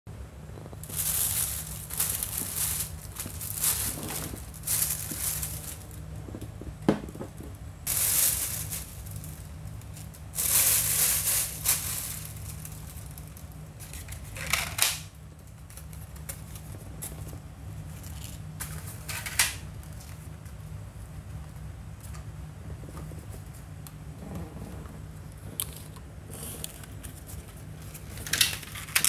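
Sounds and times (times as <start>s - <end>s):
plastic bag rustling: 0.4s - 20.6s, 22.7s - 29.0s.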